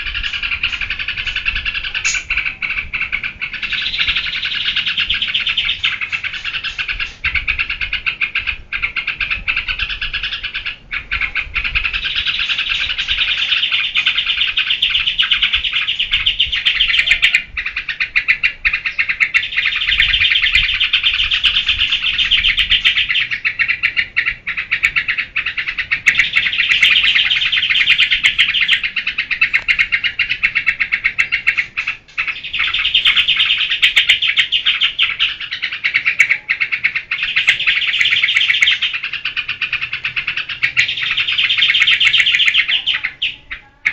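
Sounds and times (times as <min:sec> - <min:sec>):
bird chattering song: 0:00.0 - 0:43.9.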